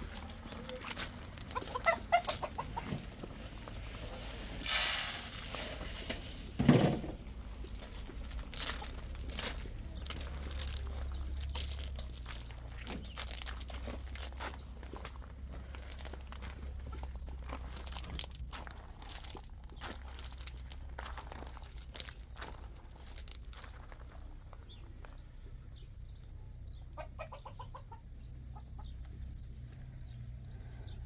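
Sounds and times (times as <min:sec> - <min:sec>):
chickens clucking: 0:00.0 - 0:29.8.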